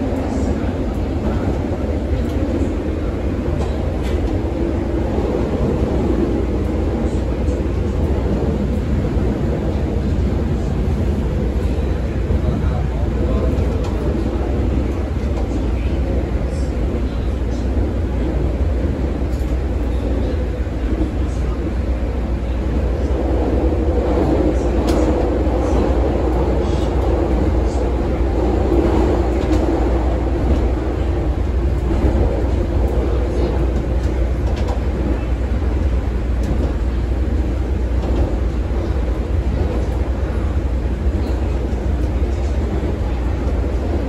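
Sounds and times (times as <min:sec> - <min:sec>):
train wheels and motors rumbling: 0:00.0 - 0:44.0.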